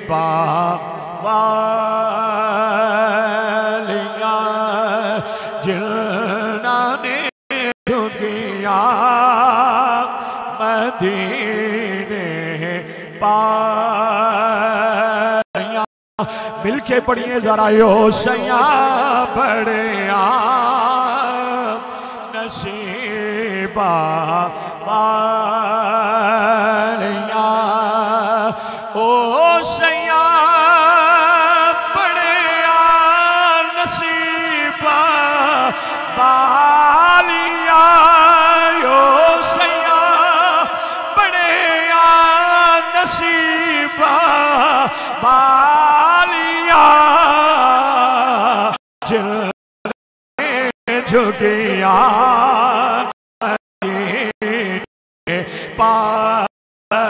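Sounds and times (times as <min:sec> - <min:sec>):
man chanting melodically: 0:00.0 - 0:57.0.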